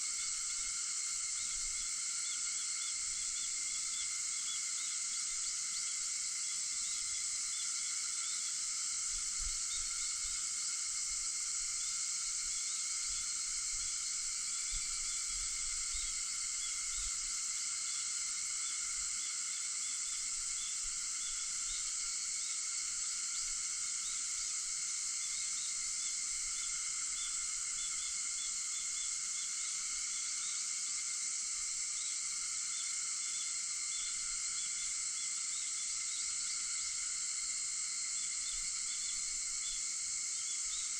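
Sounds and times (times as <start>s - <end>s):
cicadas shrilling: 0.0s - 40.9s
insect trills: 0.0s - 40.9s.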